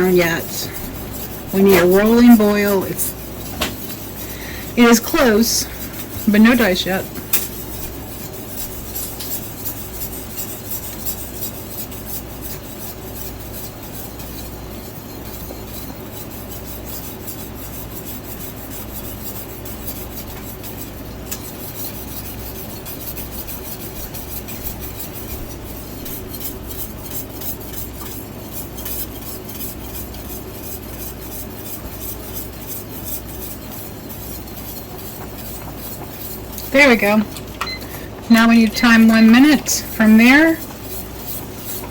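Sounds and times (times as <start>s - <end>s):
steady low hum: 0.0s - 41.9s
syrup boiling: 0.0s - 41.9s
utensil scraping pan bottom: 0.0s - 41.9s.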